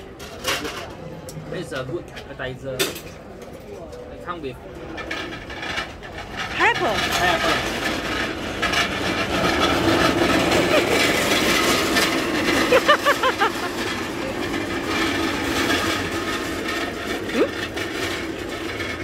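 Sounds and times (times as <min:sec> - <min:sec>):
diners chatter: 0:00.0 - 0:18.3
service trolley rattling: 0:00.0 - 0:19.0.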